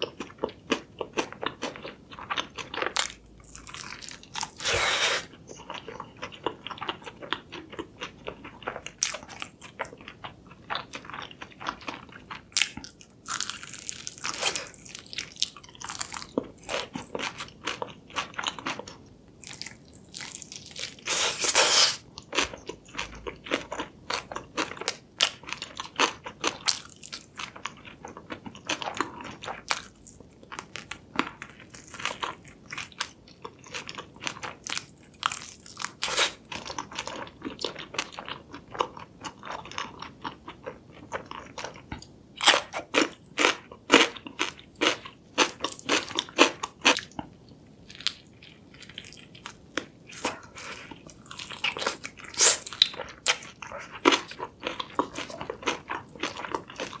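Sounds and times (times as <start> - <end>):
chewing with sharp crackles: 0.0 - 57.0.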